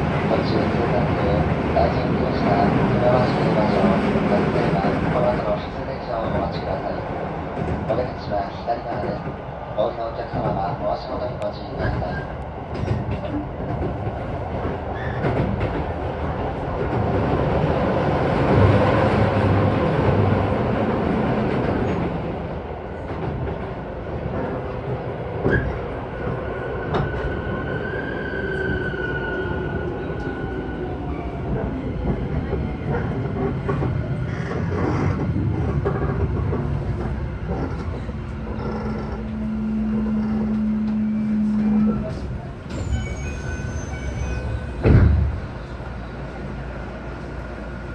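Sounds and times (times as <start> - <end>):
train wheels on rails: 0.0 - 27.8, 31.4 - 47.9.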